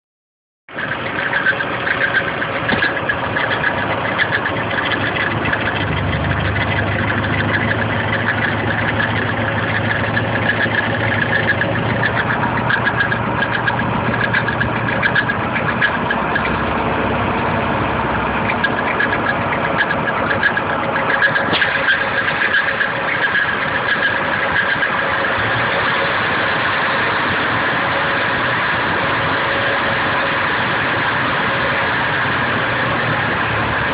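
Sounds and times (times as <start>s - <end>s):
car engine running: 0.7s - 33.9s
fast ticking rattle: 0.7s - 33.9s.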